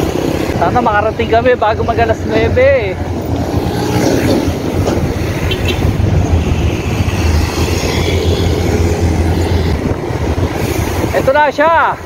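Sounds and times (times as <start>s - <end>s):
wind rumble on microphone: 0.0s - 11.4s
motor traffic: 0.0s - 12.0s.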